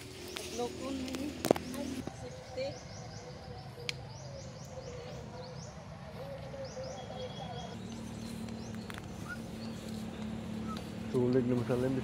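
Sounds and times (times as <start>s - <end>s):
small birds chirping: 0.0s - 12.0s
faint voices: 0.4s - 12.0s.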